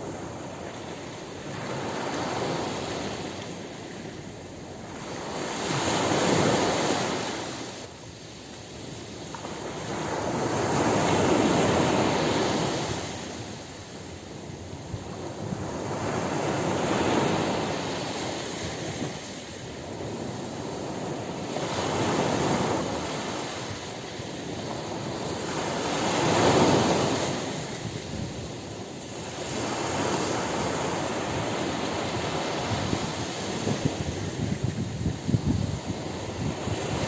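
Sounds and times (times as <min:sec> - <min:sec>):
ocean surf washing onto beach: 0:00.0 - 0:37.0.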